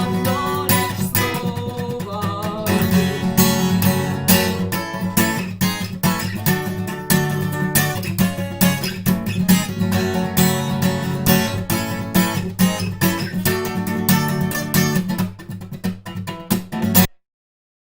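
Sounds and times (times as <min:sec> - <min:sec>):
acoustic guitar strumming: 0:00.0 - 0:17.1.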